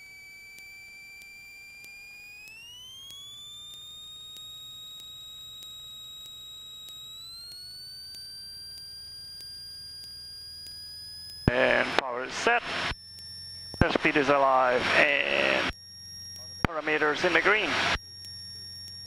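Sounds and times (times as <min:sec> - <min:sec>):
high electronic whine: 0:00.0 - 0:19.0.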